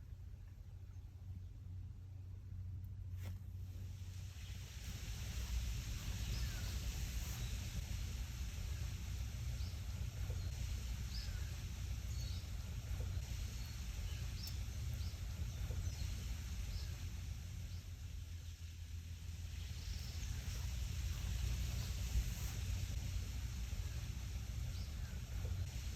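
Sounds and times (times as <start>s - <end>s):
wind rustling leaves: 3.1s - 25.9s
small birds chirping: 3.2s - 25.9s
wind rumble on microphone: 3.7s - 25.9s.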